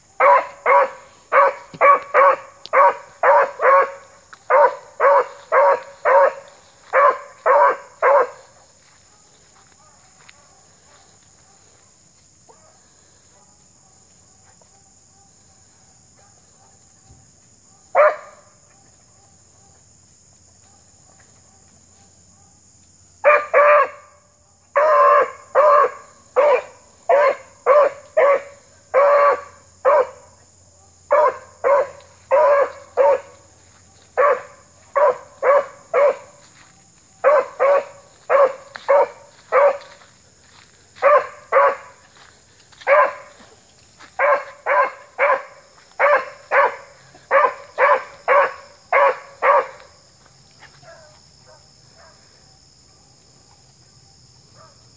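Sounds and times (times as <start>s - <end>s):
dog barking: 0.1s - 11.8s, 12.5s - 17.0s, 17.7s - 19.9s, 20.6s - 22.6s, 23.2s - 40.1s, 41.0s - 49.9s, 50.8s - 54.9s.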